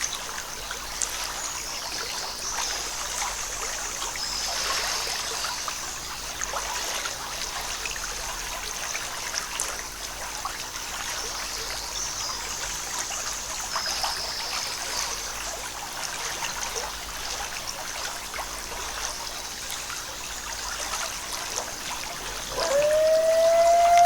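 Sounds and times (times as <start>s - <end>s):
water splashes and drips: 0.0s - 24.0s.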